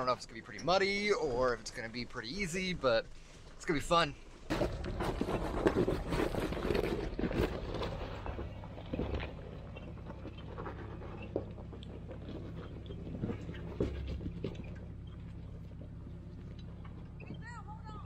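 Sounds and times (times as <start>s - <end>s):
low engine hum: 0.0s - 18.0s
tyres crunching over rocks: 0.0s - 18.0s.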